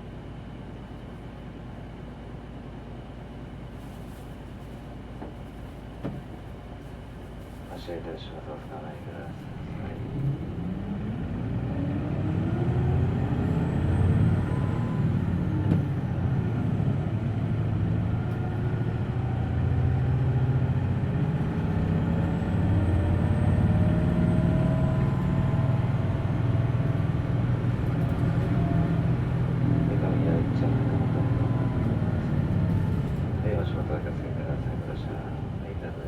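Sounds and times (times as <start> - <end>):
bus diesel engine accelerating: 0.0 - 36.0.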